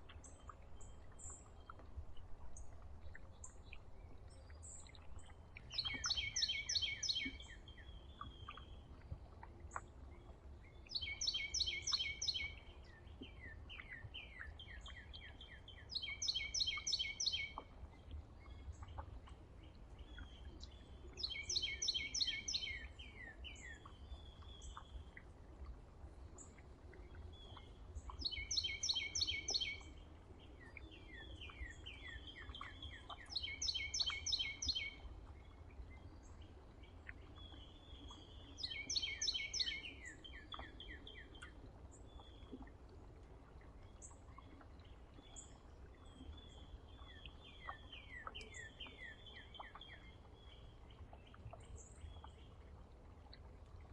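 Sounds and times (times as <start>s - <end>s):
soft bird chirps: 0.0s - 43.0s, 43.8s - 53.4s
songbird singing repeated notes: 2.6s - 25.2s, 26.4s - 42.6s, 43.9s - 52.6s.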